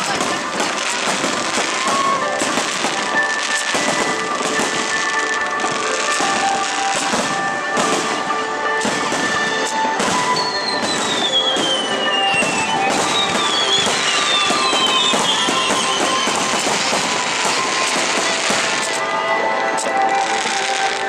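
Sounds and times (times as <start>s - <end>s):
background music: 0.0s - 21.0s
falling firework whistle: 0.0s - 21.0s
fireworks bursts and crackling: 0.0s - 21.0s.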